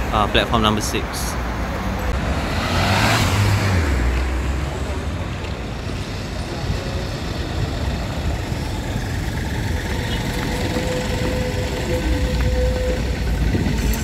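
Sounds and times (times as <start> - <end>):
passing road vehicles rumble: 0.0 - 14.0.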